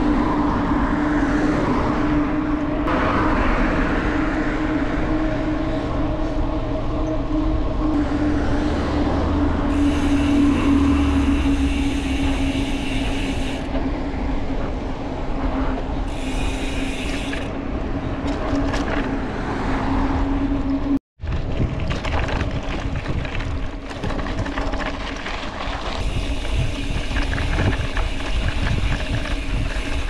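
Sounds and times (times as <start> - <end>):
bicycle road and wind noise: 0.0 - 30.0.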